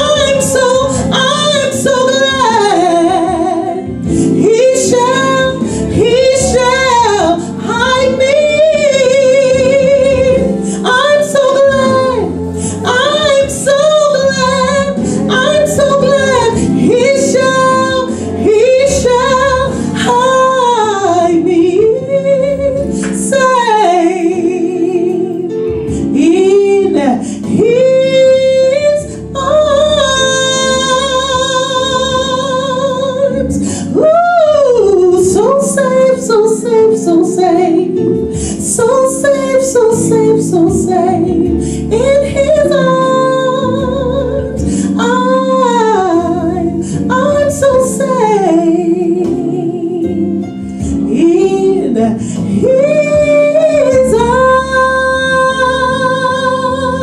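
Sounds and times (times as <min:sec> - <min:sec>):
instrumental backing music: 0:00.0 - 0:57.0
woman singing into a microphone: 0:00.0 - 0:57.0.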